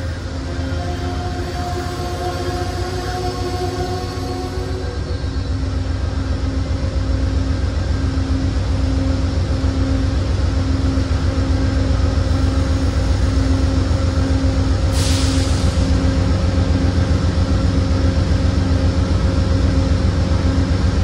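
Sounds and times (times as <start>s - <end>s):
passenger train machinery humming: 0.0s - 21.0s.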